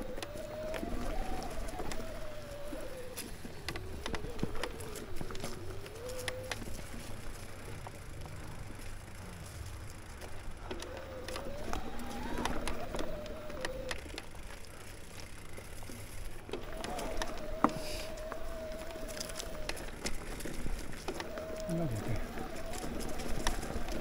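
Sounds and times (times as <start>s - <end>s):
bike rattles and ticks: 0.0s - 24.0s
whining tone: 0.0s - 24.0s
wind: 0.0s - 24.0s.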